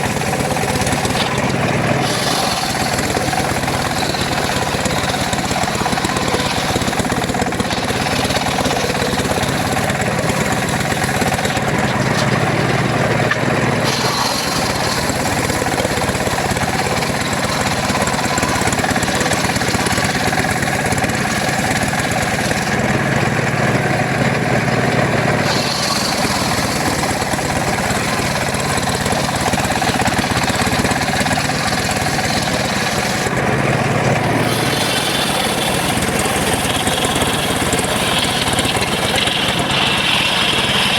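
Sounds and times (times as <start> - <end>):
circular sawmill sawing wood: 0.0 - 40.9.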